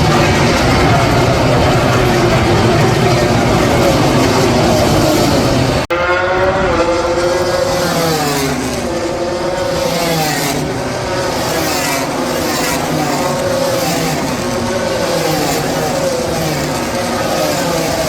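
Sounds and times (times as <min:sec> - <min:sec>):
racing motorcycles at high revs: 0:00.0 - 0:18.0.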